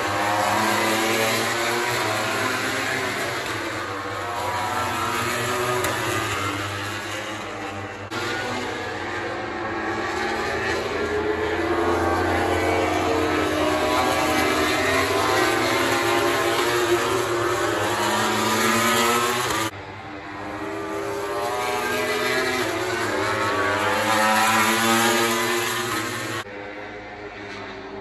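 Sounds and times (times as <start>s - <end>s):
racing motorcycles passing at high revs: 0.0s - 28.0s.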